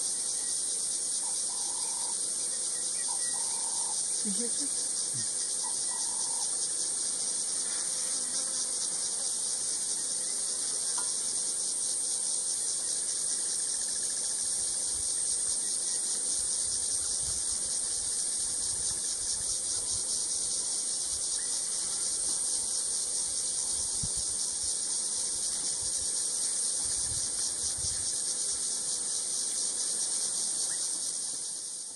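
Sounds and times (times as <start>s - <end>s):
high-pitched insect drone: 0.0s - 31.9s.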